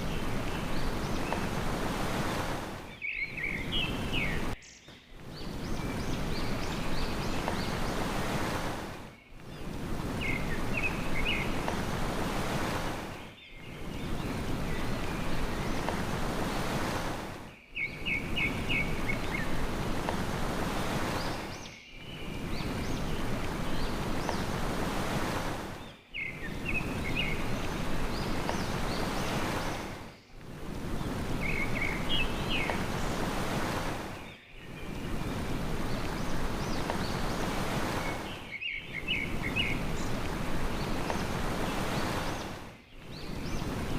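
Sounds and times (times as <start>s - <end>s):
sea surf washing: 0.0s - 4.6s, 5.2s - 43.9s
small birds chirping: 0.0s - 43.9s.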